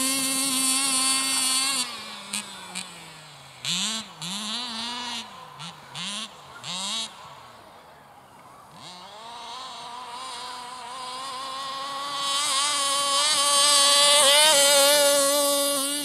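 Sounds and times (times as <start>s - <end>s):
rc car two-stroke engine high revs: 0.0s - 7.9s, 8.6s - 16.0s.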